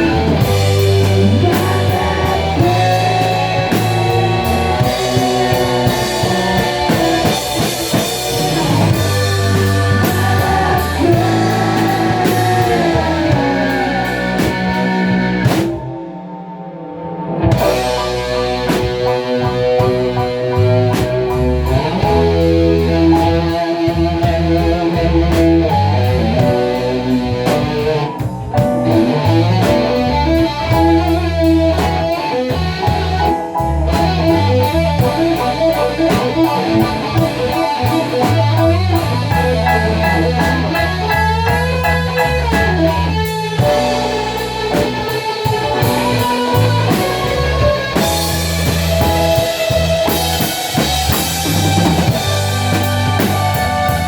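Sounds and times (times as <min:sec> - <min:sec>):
steady bass: 0:00.0 - 0:16.1, 0:17.3 - 0:54.0
drum kit: 0:00.0 - 0:54.0
guitar lines: 0:00.0 - 0:54.0.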